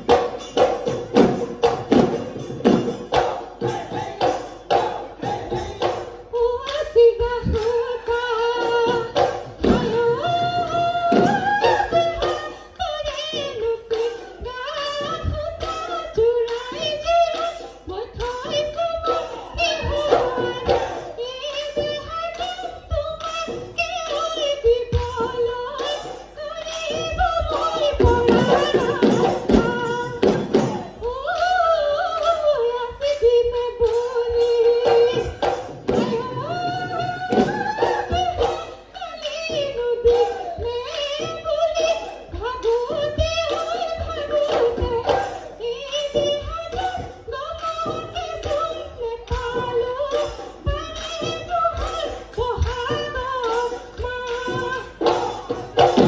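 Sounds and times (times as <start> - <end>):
drums beaten in quick rhythm: 0.0 - 56.0.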